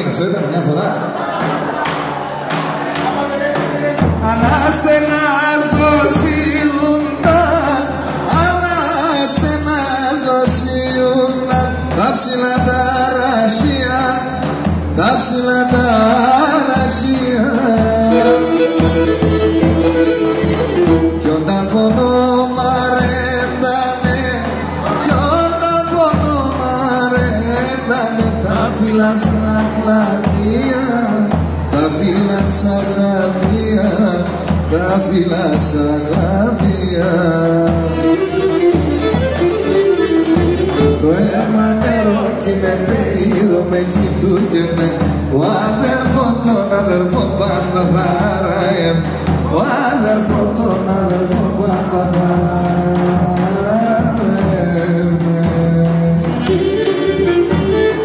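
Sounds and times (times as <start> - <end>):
man singing folk song: 3.0 - 58.0.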